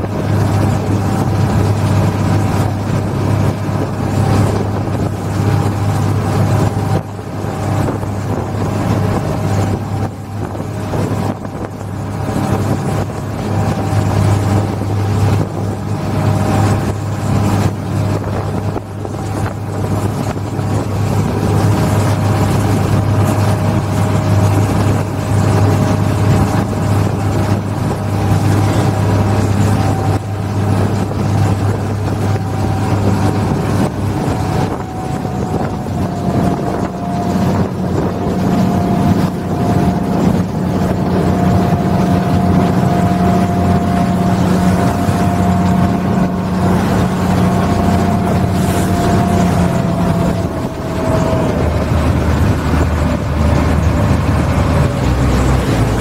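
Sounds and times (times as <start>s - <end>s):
ferry engine humming: 0.0s - 56.0s
water noise: 0.0s - 56.0s.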